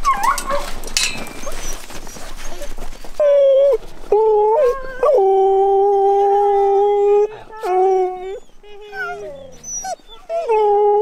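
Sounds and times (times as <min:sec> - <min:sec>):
husky howling: 0:00.0 - 0:01.9, 0:02.5 - 0:11.0.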